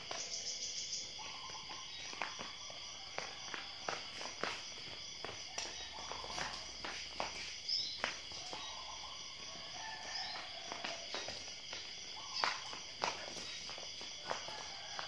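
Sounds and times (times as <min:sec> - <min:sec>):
footsteps on tiled paving: 0:00.0 - 0:15.0
insect chorus: 0:00.0 - 0:15.0.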